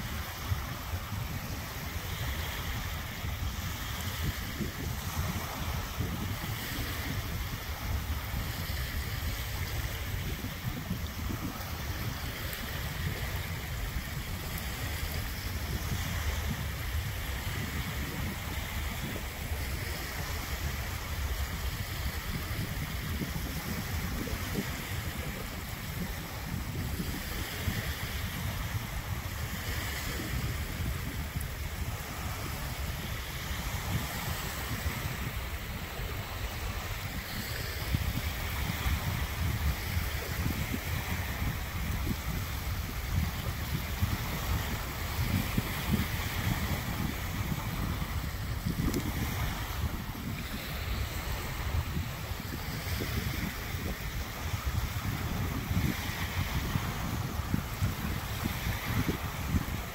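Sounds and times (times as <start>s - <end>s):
small waves lapping on sand: 0.0s - 59.9s
wind rumble on microphone: 0.0s - 59.9s.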